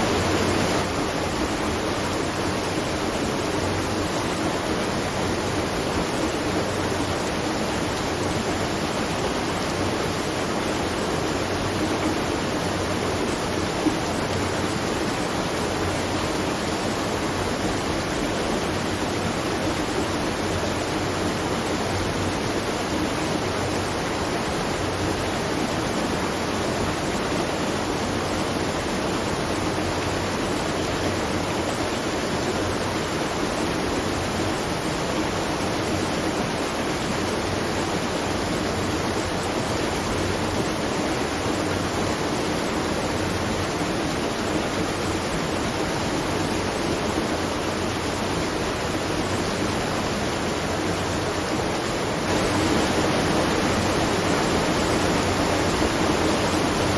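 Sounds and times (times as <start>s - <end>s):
water rushing at a watermill: 0.0s - 56.9s.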